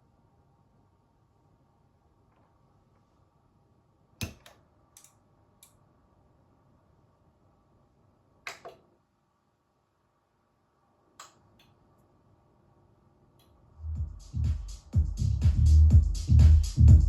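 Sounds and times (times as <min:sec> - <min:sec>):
faint background hiss: 0:00.0 - 0:13.8.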